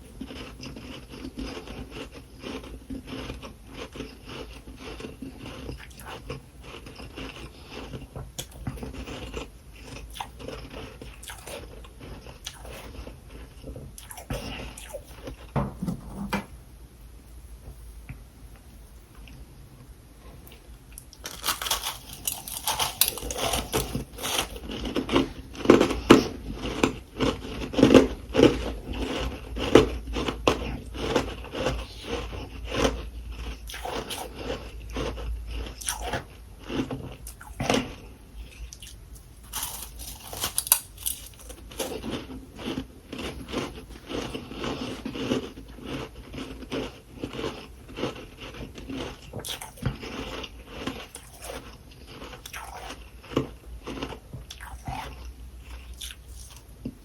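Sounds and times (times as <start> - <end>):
frost being chewed: 0.0 - 15.6, 20.3 - 57.0.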